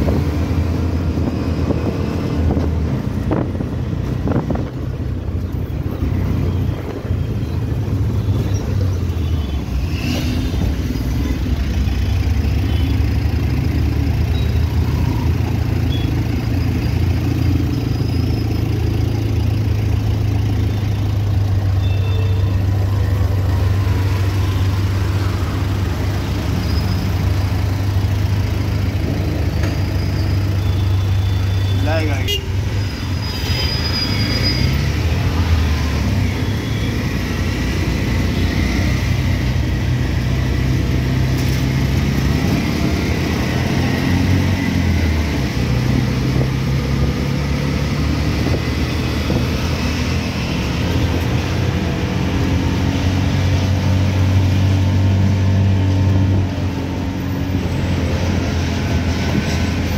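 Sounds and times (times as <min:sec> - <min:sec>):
auto-rickshaw engine droning: 0:00.0 - 0:59.9
street traffic: 0:00.0 - 0:59.9.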